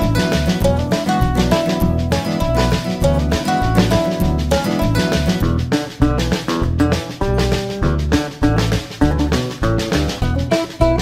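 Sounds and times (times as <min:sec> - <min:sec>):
instrumental band music: 0:00.0 - 0:11.0.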